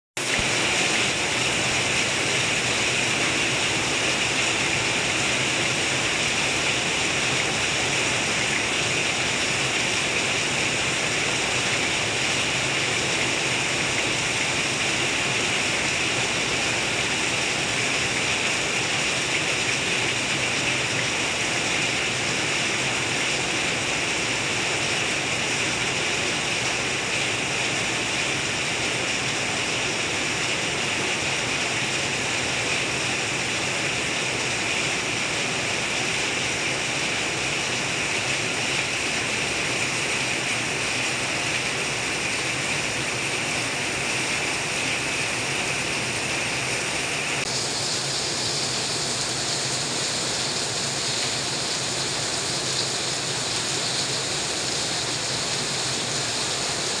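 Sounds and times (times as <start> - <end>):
heavy rain pouring off a roof: 0.2 - 57.0.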